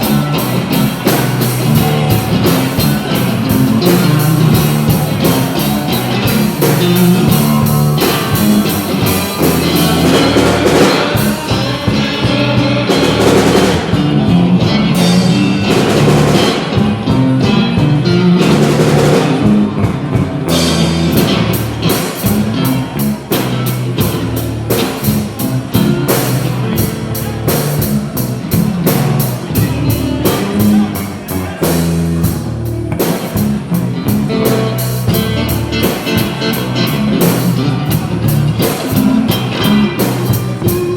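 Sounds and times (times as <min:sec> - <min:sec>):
drum kit playing: 0:00.0 - 0:40.9
electric guitar: 0:00.0 - 0:40.9.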